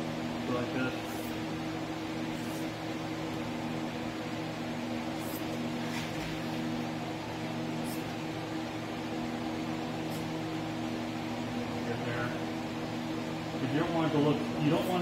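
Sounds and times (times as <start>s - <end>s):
electric fans rushing air: 0.0s - 15.0s.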